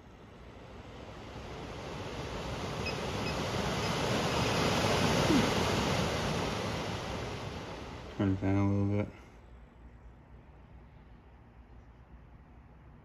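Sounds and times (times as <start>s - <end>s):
blower fan rushing air: 0.0s - 13.0s.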